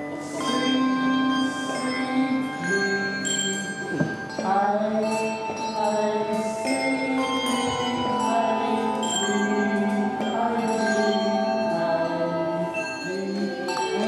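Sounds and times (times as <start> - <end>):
handbells playing a tune: 0.0 - 14.0.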